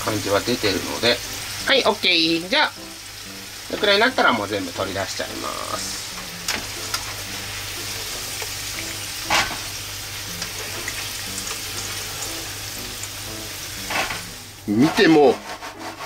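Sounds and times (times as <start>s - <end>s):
potato slices sizzling in oil: 0.0s - 16.0s.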